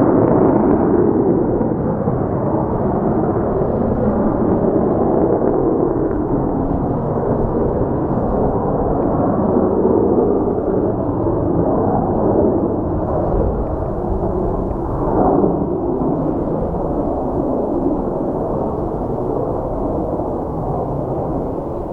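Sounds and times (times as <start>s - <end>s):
jet engines roaring: 0.0s - 21.9s
wind buffeting microphone: 0.0s - 21.9s.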